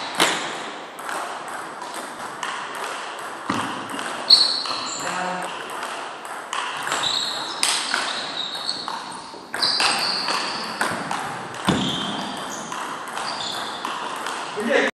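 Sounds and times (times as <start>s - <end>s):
table tennis ball clicking: 1.0s - 14.6s.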